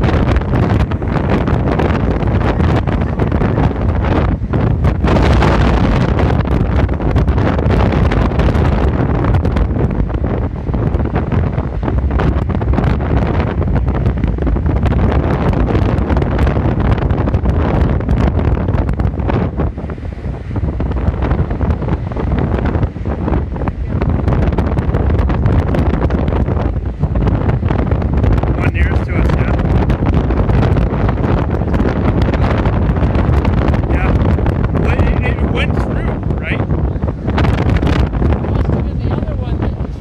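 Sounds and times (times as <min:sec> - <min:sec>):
storm wind buffeting microphone: 0:00.0 - 0:40.0.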